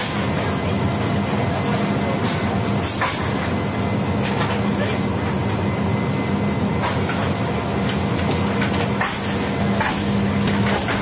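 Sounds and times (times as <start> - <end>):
loud machinery drone: 0.0 - 11.0.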